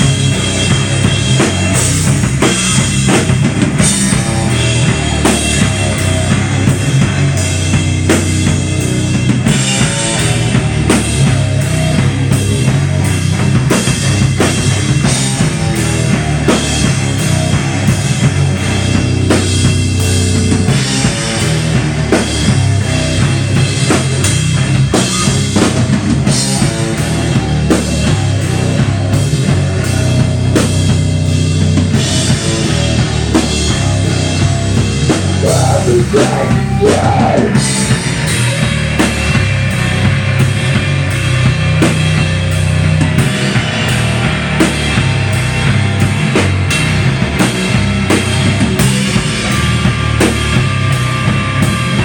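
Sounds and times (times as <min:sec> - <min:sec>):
bass guitar: 0:00.0 - 0:52.0
drum kit beat: 0:00.0 - 0:52.0
electric guitar: 0:00.0 - 0:52.0.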